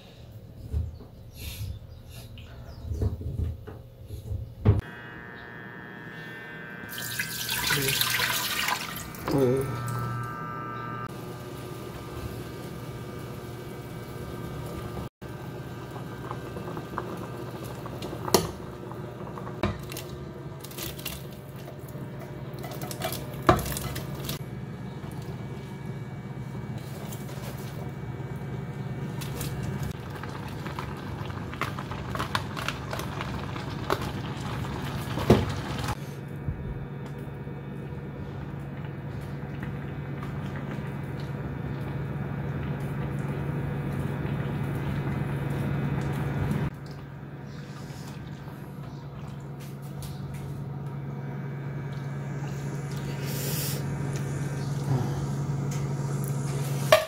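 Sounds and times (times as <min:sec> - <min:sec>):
steady low hum: 0:00.0 - 0:57.0
broth boiling in a pot: 0:11.0 - 0:57.0.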